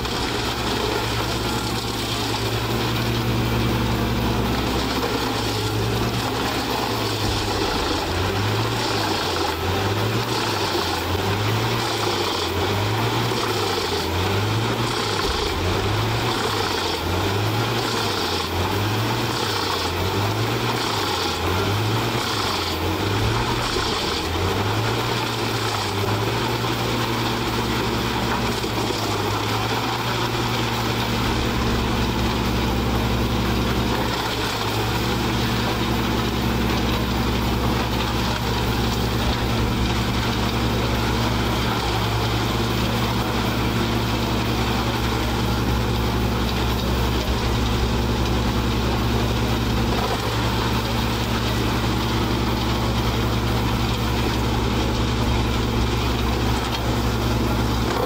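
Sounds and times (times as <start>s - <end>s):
heavy engine drone: 0.0s - 58.0s
wood chipper chipping logs: 0.0s - 58.0s.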